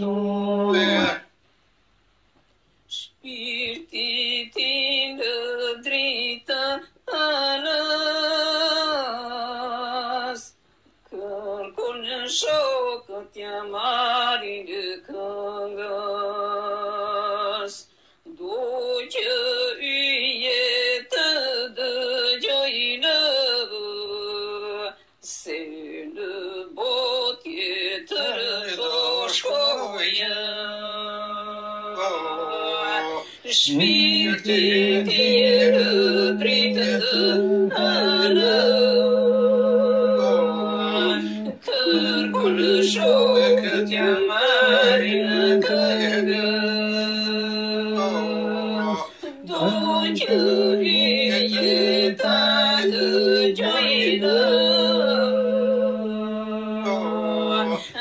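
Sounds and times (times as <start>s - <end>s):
person singing slow song: 0.0s - 1.1s, 2.9s - 58.0s.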